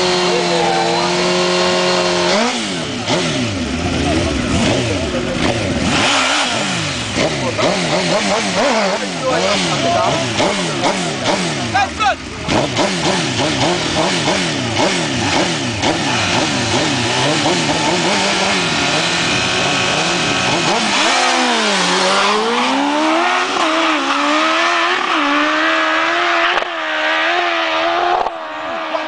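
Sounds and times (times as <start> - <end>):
motorbike engines revving: 0.0 - 29.0.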